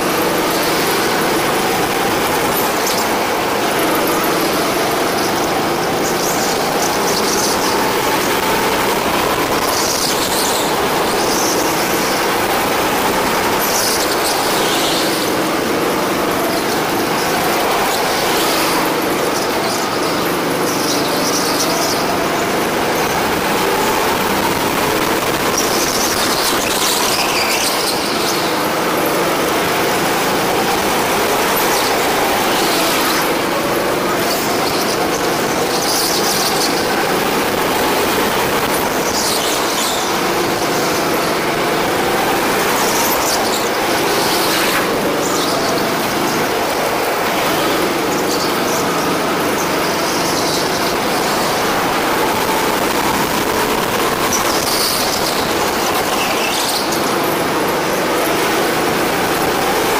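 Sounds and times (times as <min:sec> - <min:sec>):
go-kart engine revving: 0:00.0 - 0:59.9
tyres squealing: 0:00.0 - 0:59.9.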